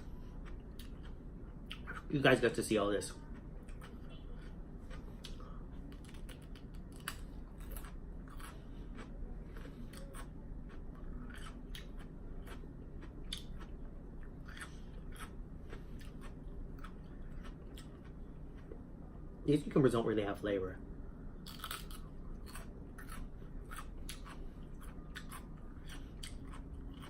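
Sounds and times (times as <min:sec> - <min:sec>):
crunchy chewing of cucumber: 0:00.0 - 0:18.9, 0:21.4 - 0:27.0.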